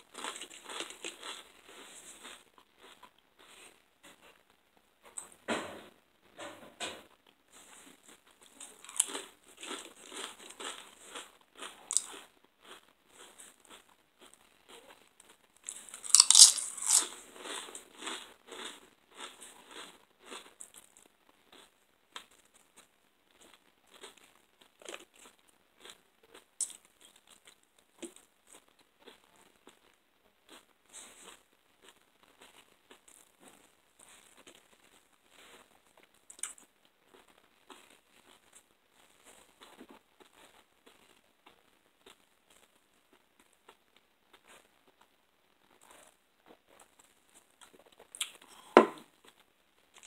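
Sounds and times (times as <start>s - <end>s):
person chewing crunchy food: 0.0s - 4.5s, 7.5s - 45.1s, 45.7s - 50.0s.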